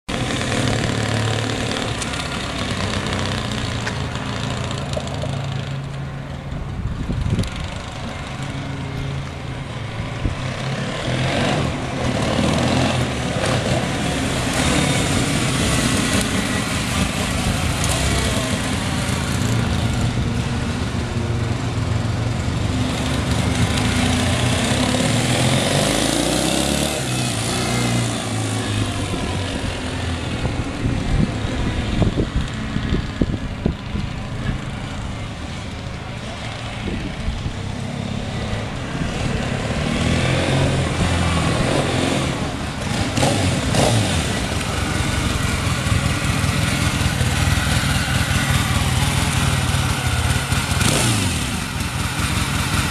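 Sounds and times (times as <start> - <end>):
motorcycle engine running: 0.1 - 52.9.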